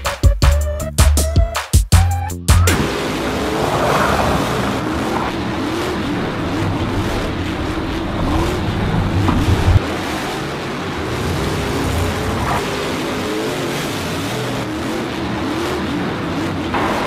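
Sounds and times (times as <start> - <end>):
race car engines revving: 2.6 - 17.0.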